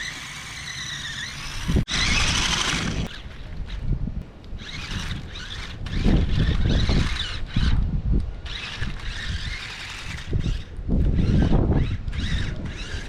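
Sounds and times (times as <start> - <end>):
toy car electric motor whining: 0.0 - 3.2, 4.6 - 7.8, 8.4 - 13.0.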